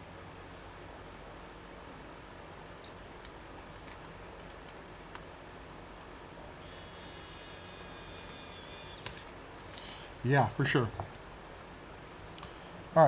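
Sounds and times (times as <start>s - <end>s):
faint high-pitched whine: 0.0s - 13.0s
steady low hum: 0.0s - 13.0s.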